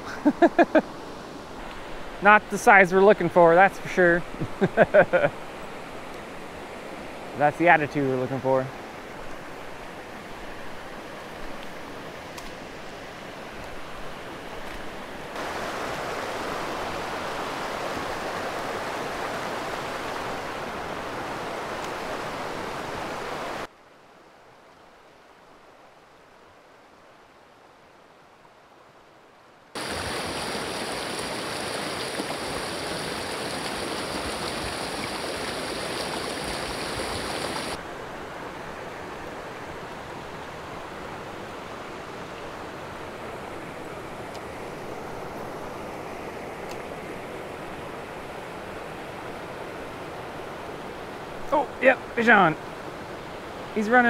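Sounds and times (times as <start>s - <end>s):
creek rushing over stones: 0.0s - 23.7s, 29.8s - 54.0s.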